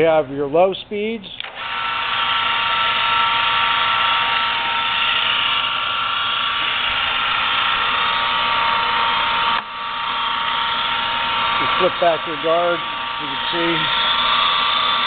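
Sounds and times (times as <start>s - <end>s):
drill press motor whine: 1.4s - 15.0s.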